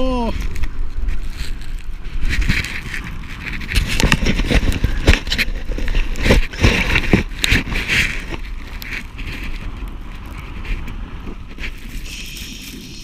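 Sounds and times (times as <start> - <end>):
crackles and scrapes: 0.0 - 13.0
wind buffeting microphone: 0.0 - 13.0.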